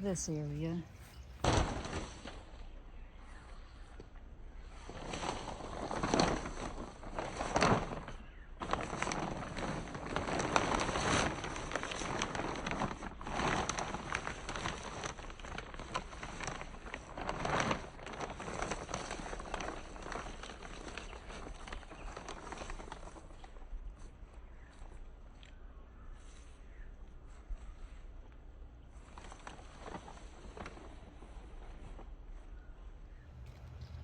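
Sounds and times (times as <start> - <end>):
rustling and scraping in soil: 0.0 - 2.5, 4.6 - 34.0.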